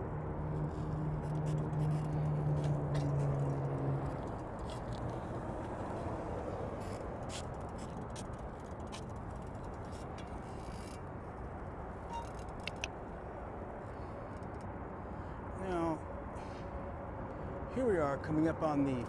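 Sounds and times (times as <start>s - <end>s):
low engine hum: 0.0s - 17.7s
car road and engine noise: 0.0s - 19.0s.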